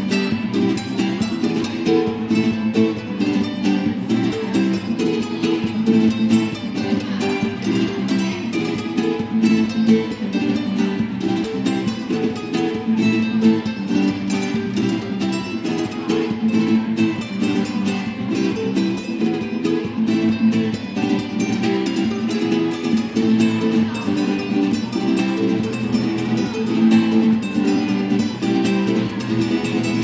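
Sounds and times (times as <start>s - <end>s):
acoustic guitars playing: 0.0s - 30.0s.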